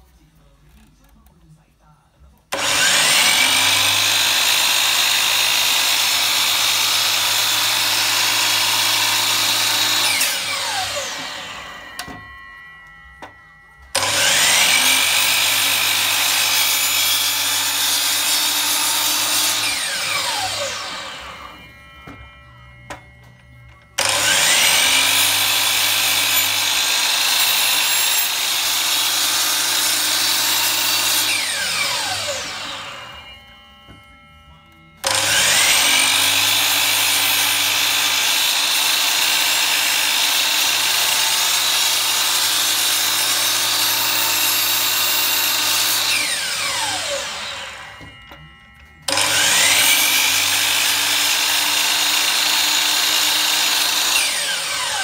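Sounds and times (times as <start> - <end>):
miter saw cutting wood: 2.5 - 55.0
saw winding down whine: 2.5 - 55.0.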